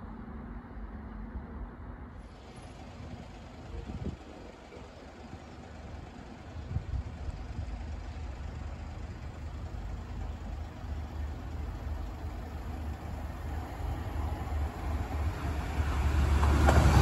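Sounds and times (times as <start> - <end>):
diesel train rumble: 0.0 - 17.0.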